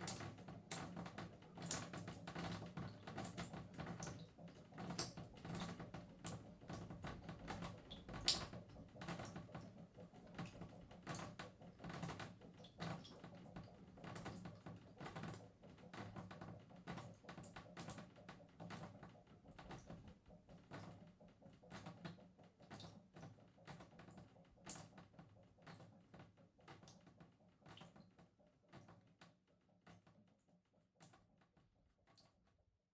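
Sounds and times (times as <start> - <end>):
shower water dripping: 0.0 - 32.5.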